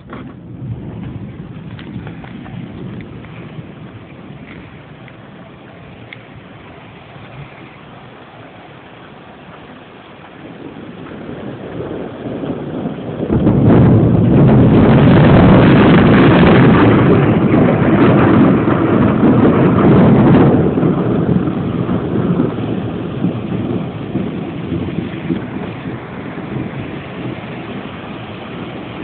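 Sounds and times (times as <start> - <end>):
thunderclap rolling: 0.0 - 29.0.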